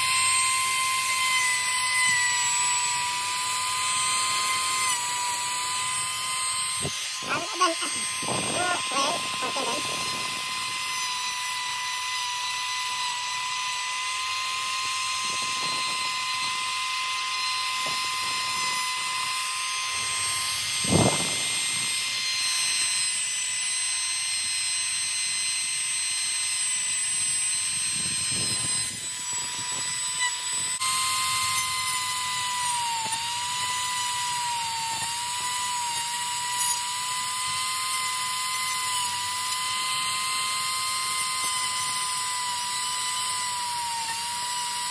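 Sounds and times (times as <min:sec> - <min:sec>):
rotary tool grinding foam: 0:00.0 - 0:44.9.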